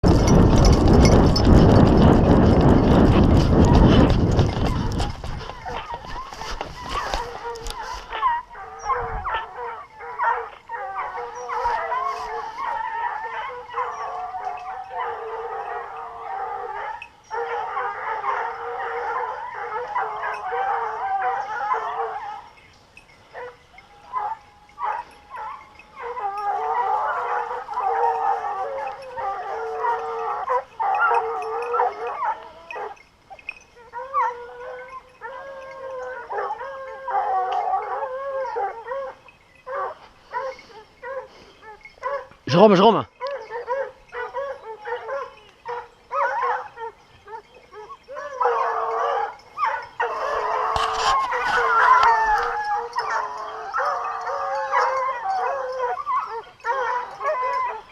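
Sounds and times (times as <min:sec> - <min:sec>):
hounds baying: 0:00.0 - 0:57.9.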